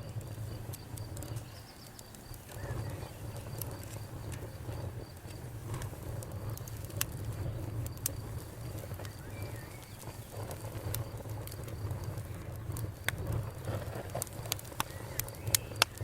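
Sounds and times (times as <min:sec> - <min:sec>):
campfire crackling and popping: 0:00.0 - 0:16.0
fire low rumble: 0:00.0 - 0:16.0.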